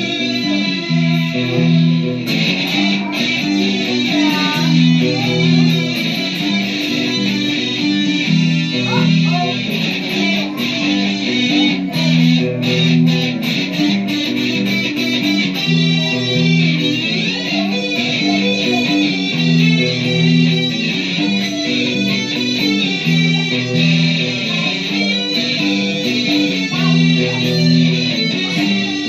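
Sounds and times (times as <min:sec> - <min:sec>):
guitar playing a riff: 0:00.0 - 0:29.0.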